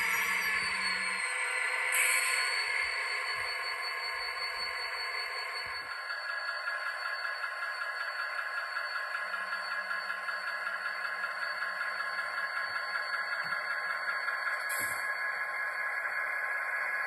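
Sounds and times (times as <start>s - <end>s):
model train diesel engine sound: 0.0s - 17.0s
model train rolling on track: 0.0s - 17.0s.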